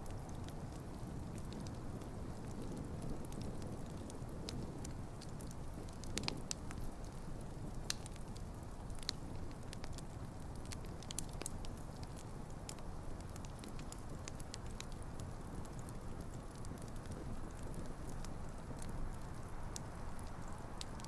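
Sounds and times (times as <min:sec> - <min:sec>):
burning logs crackling and popping: 0:00.0 - 0:21.0
campfire flames rushing: 0:00.0 - 0:21.0.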